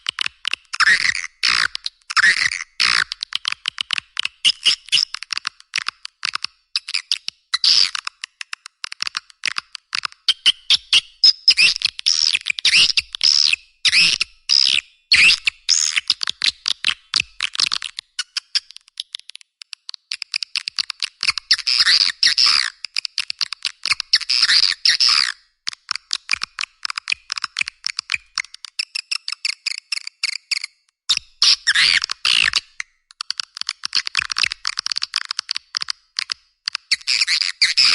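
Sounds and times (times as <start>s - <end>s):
swiftlet clicks and chirps: 0.0s - 14.8s, 17.4s - 37.9s.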